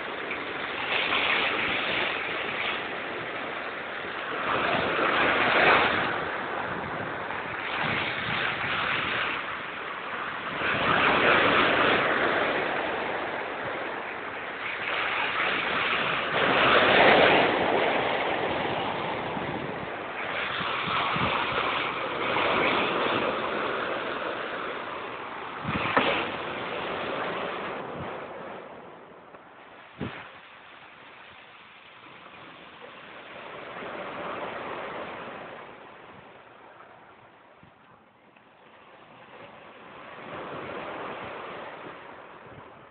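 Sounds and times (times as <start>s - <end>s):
big waves crashing: 0.0s - 42.9s.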